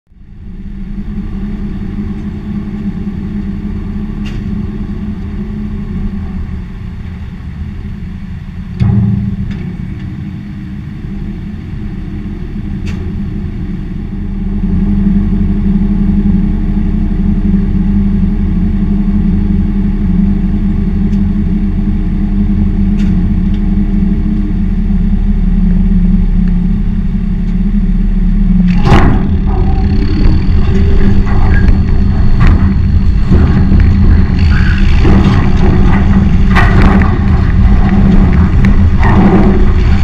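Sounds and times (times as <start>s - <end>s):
tractor engine running: 0.1s - 40.0s.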